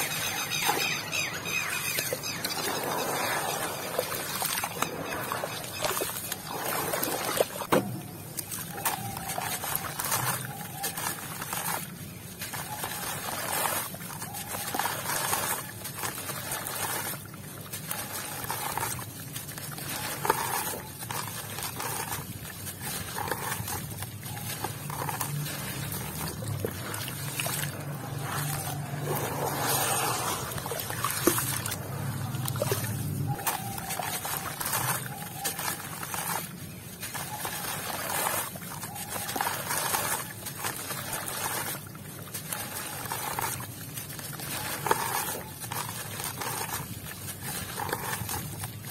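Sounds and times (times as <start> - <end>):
water sloshing and trickling: 0.0 - 48.9
gritty dirt crumbling: 1.6 - 48.9.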